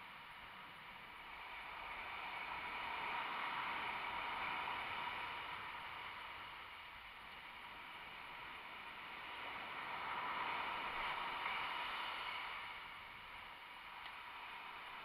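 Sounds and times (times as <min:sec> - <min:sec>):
ocean surf breaking: 0:01.3 - 0:06.7, 0:07.7 - 0:15.0.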